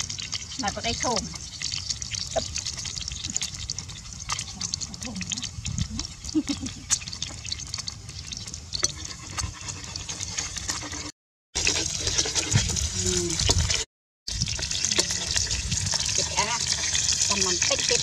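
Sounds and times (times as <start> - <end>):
omelet sizzling in oil: 0.0 - 18.0.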